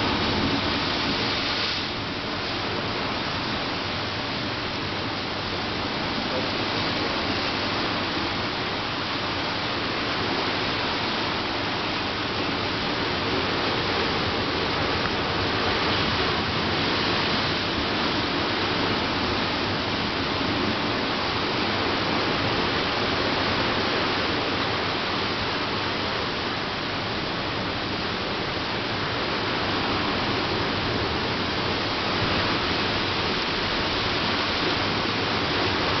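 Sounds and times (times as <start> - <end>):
ocean surf washing: 0.0 - 36.0.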